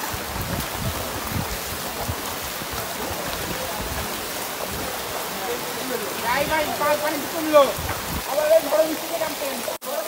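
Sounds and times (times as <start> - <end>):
feet wading through water: 0.0 - 9.8
sloshing floodwater: 0.0 - 10.0
steady rain: 0.0 - 10.0.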